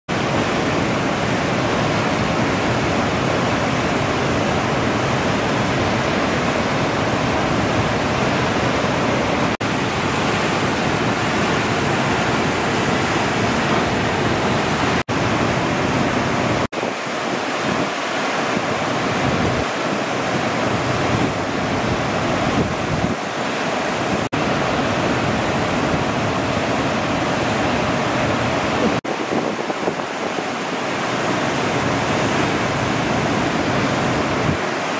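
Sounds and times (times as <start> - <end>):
ocean surf breaking: 0.1 - 34.9.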